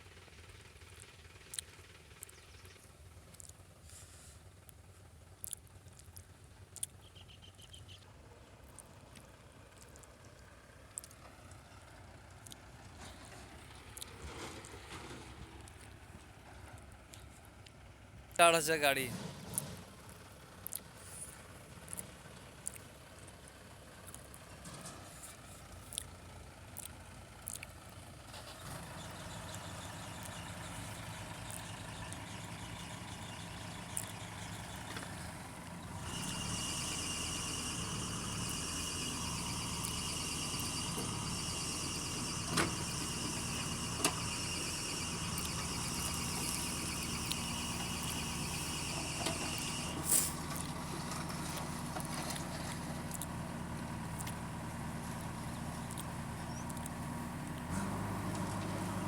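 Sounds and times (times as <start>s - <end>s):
heavy diesel engine running: 0.0s - 6.6s, 8.5s - 59.0s.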